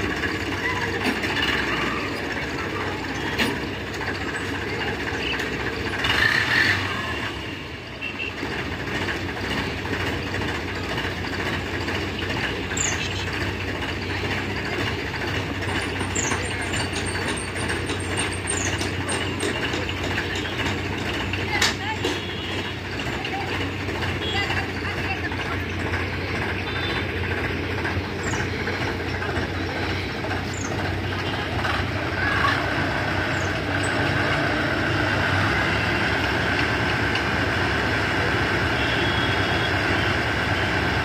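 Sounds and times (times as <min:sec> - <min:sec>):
tractor diesel engine idling: 0:00.0 - 0:41.0.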